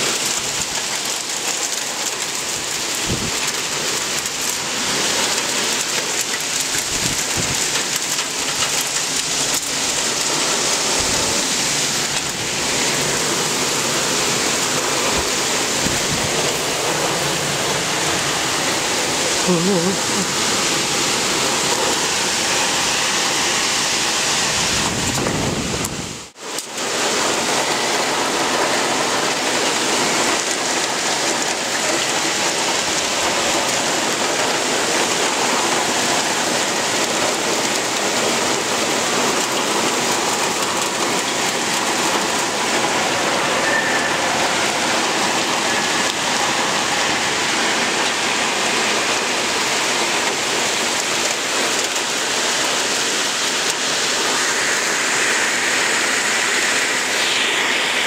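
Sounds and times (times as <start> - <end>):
heavy rain and hail: 0.0 - 58.0.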